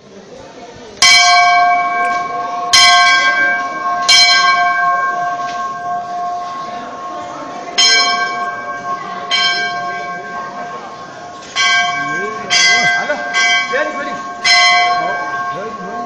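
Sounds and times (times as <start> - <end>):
crowd talking: 0.0 - 16.0
temple bell ringing: 1.0 - 16.0.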